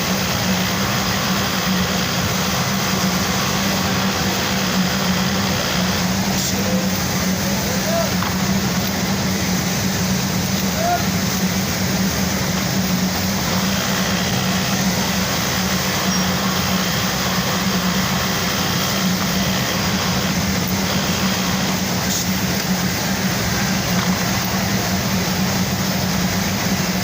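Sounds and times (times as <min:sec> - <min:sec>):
industrial sewing machines running: 0:00.0 - 0:27.0.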